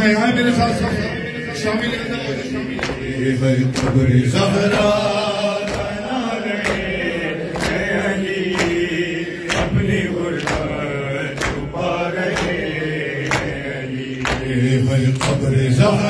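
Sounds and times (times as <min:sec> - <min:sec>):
men chanting a lament: 0:00.0 - 0:16.0
crowd slapping chests: 0:01.8 - 0:16.0.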